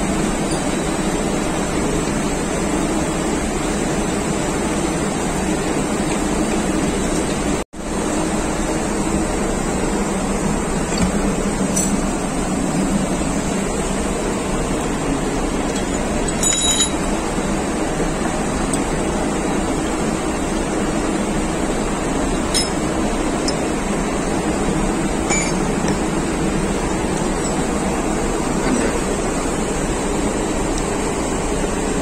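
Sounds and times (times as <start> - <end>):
machinery hum: 0.0 - 32.0.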